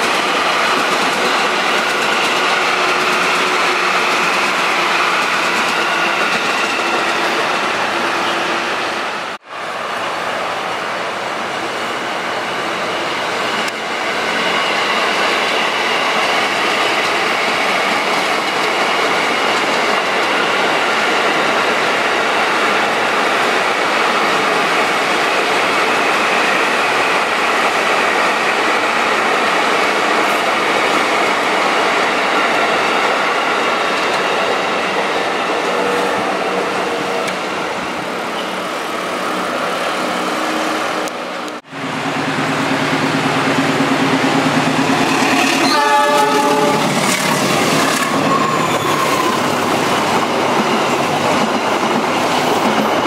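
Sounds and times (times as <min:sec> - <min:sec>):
electric train passing: 0:00.0 - 0:53.0.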